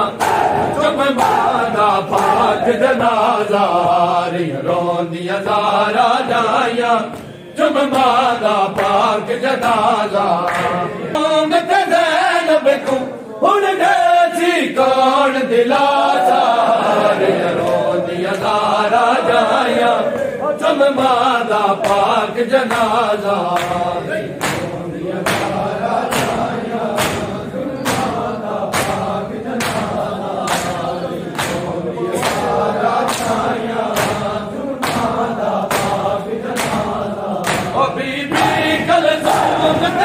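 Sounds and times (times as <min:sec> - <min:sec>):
men chanting a lament: 0:00.0 - 0:40.0.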